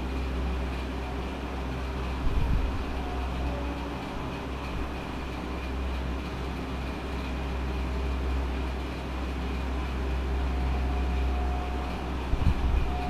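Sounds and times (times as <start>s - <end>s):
low droning background noise: 0.0s - 13.0s.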